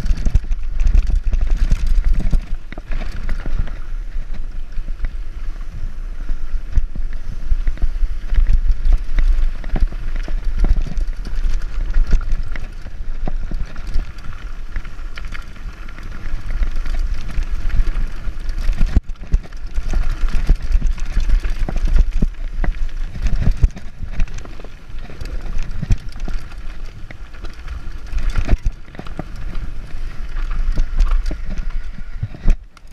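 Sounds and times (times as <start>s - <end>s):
tyres crunching over stones: 0.0s - 5.2s, 7.5s - 32.9s
bike rattling and knocking: 0.0s - 32.9s
wind rumbling on microphone: 0.0s - 32.9s.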